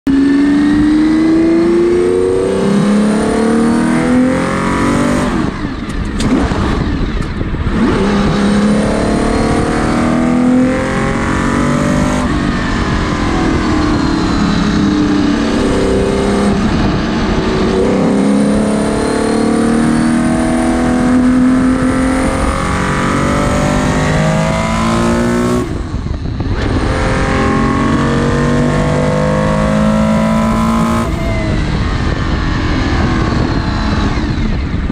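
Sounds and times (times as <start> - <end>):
racing engine revving: 0.1 - 34.2.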